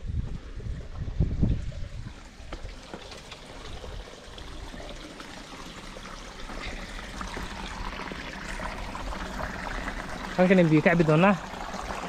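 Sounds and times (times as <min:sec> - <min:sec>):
stream water flowing: 0:01.0 - 0:12.0.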